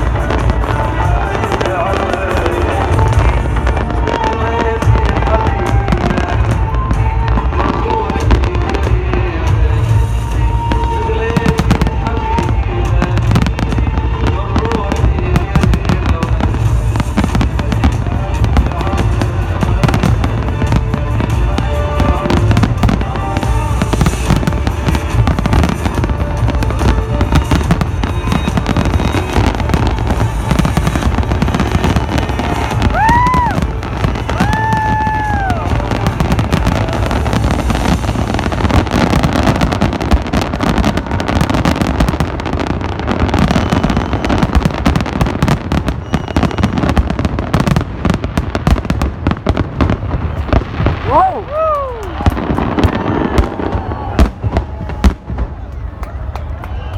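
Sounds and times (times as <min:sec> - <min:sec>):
fireworks bangs: 0:00.0 - 0:56.9.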